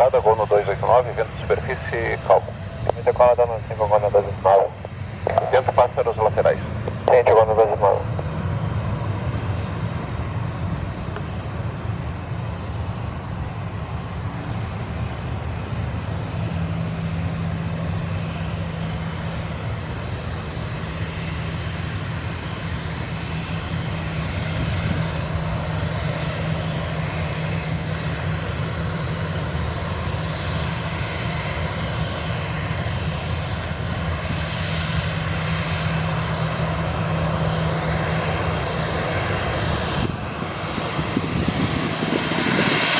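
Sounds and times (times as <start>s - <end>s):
jet engines humming and whining: 0.0s - 42.9s.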